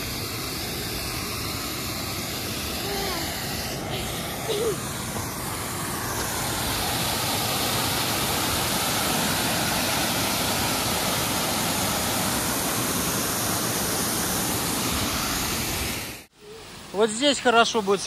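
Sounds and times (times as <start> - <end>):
water pouring over waterfall: 0.0 - 16.3.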